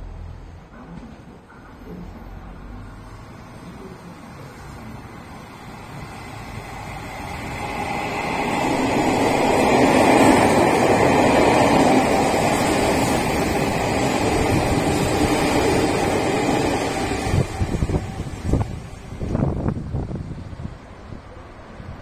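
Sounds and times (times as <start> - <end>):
train wheels rumbling on rail: 0.2 - 22.0.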